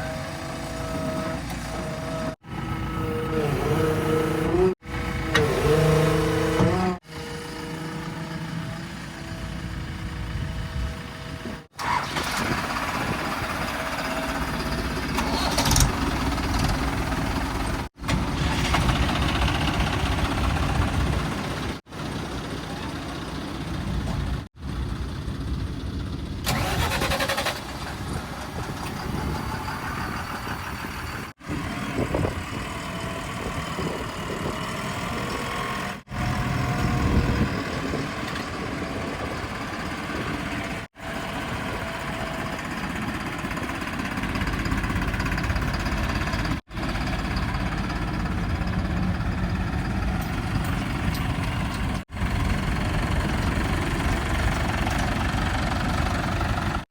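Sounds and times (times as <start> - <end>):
heavy machinery engines idling: 0.0 - 56.8.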